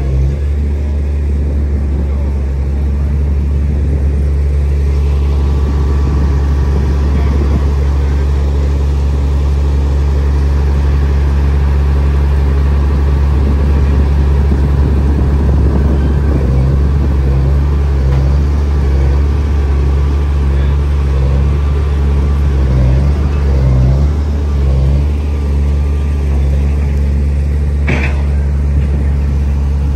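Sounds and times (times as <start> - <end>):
heavy machinery diesel engines: 0.0 - 29.9.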